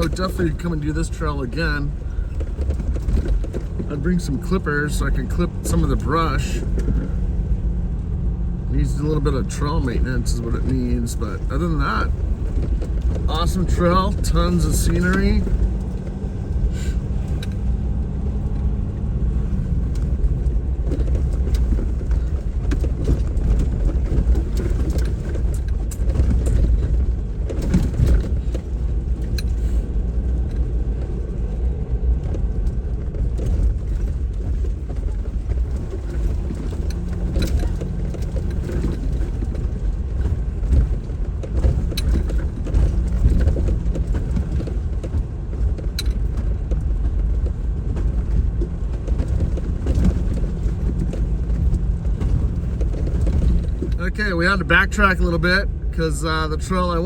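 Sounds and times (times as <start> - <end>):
knocks and rattles: 0.0 - 8.0, 8.8 - 57.0
vehicle engine and road rumble: 0.0 - 57.0.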